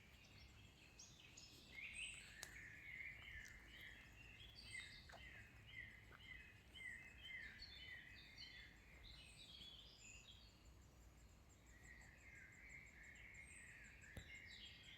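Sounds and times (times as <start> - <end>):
songbirds chirping and trilling: 0.0 - 14.9.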